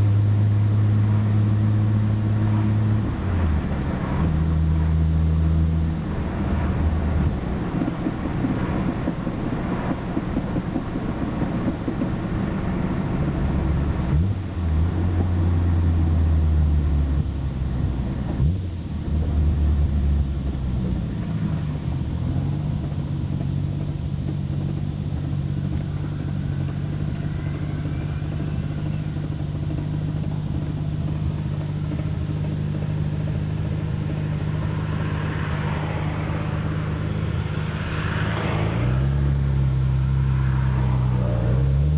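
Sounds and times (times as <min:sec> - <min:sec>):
car engine running: 0:00.0 - 0:41.9.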